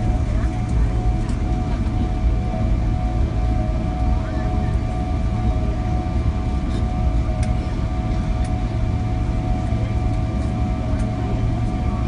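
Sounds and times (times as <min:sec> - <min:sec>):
deep cabin rumble: 0:00.0 - 0:12.0
steady whining tones: 0:00.0 - 0:12.0.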